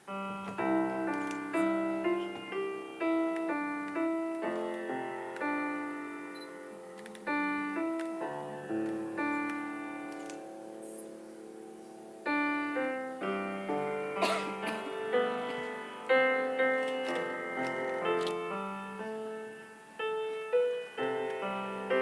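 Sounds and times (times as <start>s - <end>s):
slow piano chords and melody: 0.0s - 22.0s.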